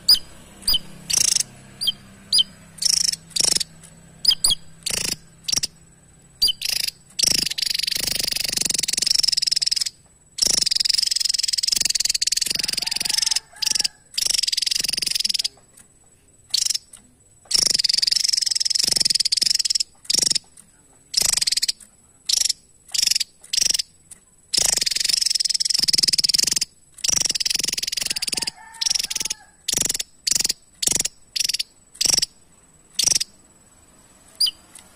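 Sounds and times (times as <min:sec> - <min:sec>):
bird singing buzzing trills: 0:00.0 - 0:15.8, 0:16.4 - 0:34.9.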